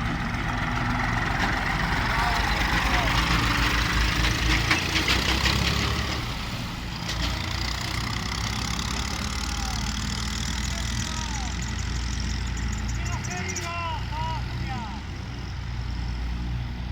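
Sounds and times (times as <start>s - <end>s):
diesel engine running at low revs: 0.0s - 16.9s.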